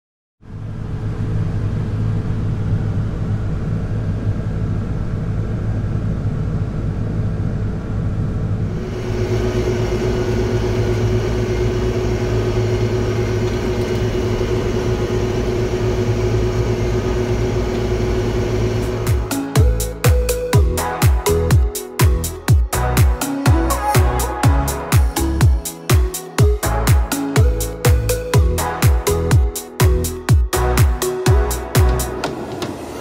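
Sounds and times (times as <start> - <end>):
steady whine: 0.4 - 33.0
tractor engine running: 1.1 - 29.4.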